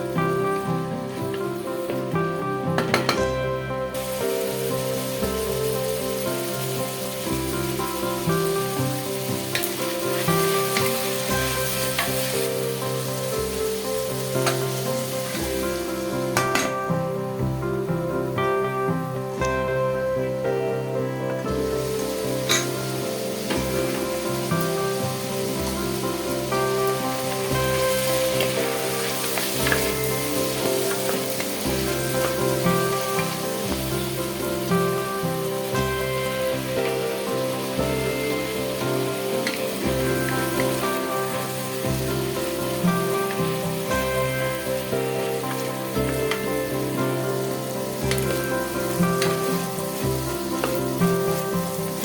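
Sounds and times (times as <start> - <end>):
food sizzling in a pan: 0.0 - 52.0
guitar music: 0.0 - 52.0.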